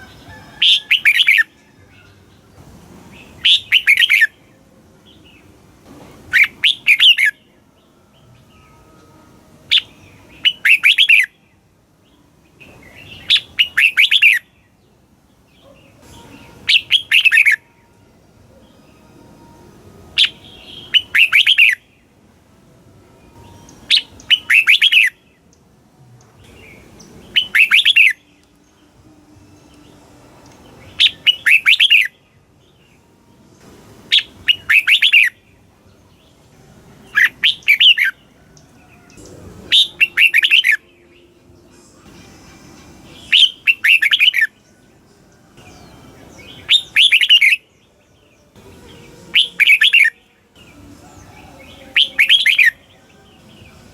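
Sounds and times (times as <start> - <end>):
bird singing whistled notes: 0.0 - 2.2, 3.1 - 5.5, 6.3 - 9.1, 9.7 - 14.8, 15.6 - 19.5, 20.1 - 22.2, 23.3 - 25.6, 26.4 - 33.0, 34.1 - 35.6, 37.0 - 42.2, 43.0 - 53.9.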